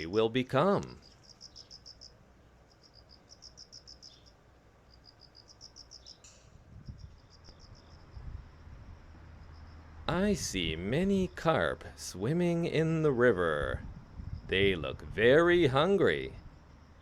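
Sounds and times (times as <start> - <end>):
faint crickets chirping: 0.0 - 17.0.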